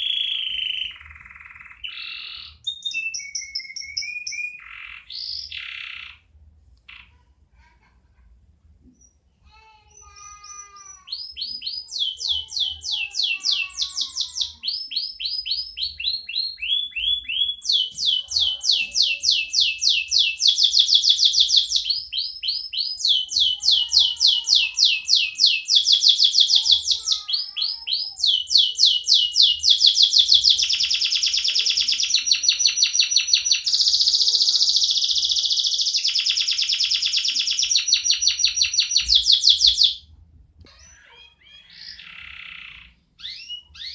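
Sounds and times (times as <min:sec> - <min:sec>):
canary singing: 0:00.0 - 0:07.3, 0:08.9 - 0:43.9.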